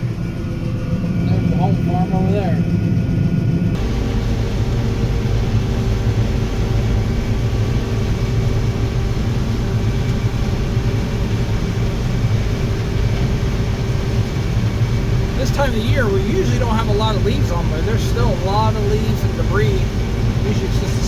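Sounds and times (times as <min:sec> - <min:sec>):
combine harvester engine drone: 0:00.0 - 0:21.0
faint steady whining tones: 0:00.0 - 0:21.0.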